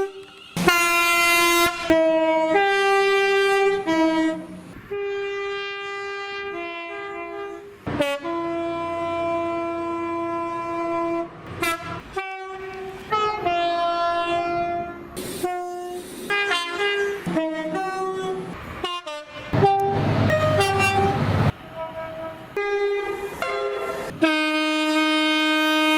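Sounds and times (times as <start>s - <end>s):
train horn blasts: 0.0s - 25.9s
two-note train horn calls: 0.0s - 25.9s.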